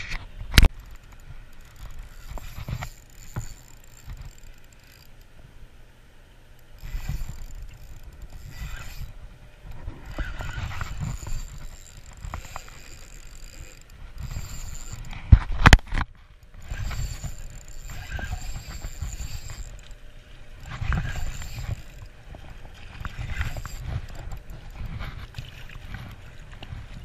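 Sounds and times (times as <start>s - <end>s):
fishing reel gears whirring: 0.6s - 5.9s, 6.5s - 27.0s.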